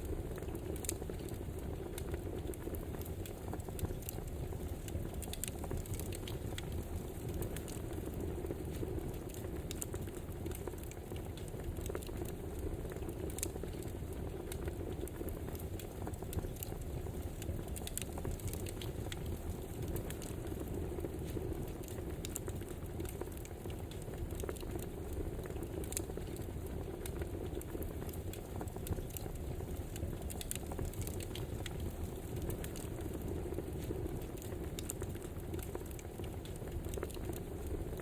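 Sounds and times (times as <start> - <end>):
campfire crackling and hissing: 0.0 - 38.0.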